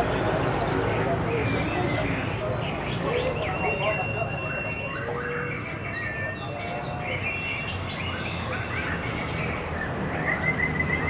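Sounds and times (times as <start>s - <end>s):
caged songbirds chirping: 0.0s - 11.0s
low background murmur: 0.0s - 11.0s.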